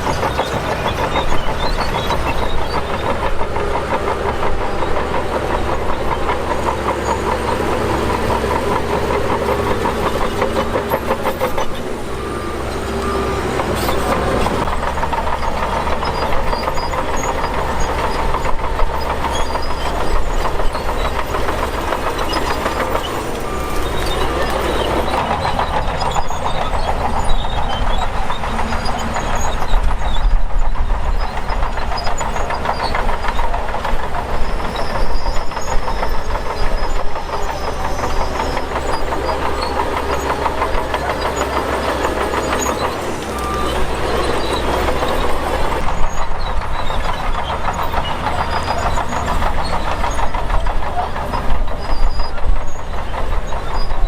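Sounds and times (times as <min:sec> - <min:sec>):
bulldozer diesel drone: 0:00.0 - 0:54.0
steel tracks clanking: 0:00.0 - 0:54.0.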